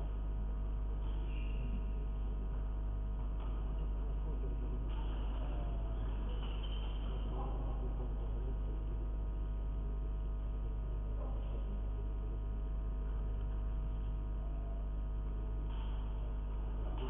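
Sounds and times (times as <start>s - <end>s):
low electrical mains hum: 0.0s - 17.0s.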